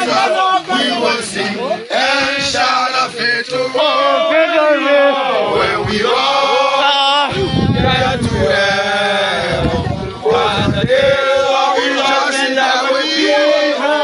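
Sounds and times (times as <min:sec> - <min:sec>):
men singing a chant: 0:00.0 - 0:14.0.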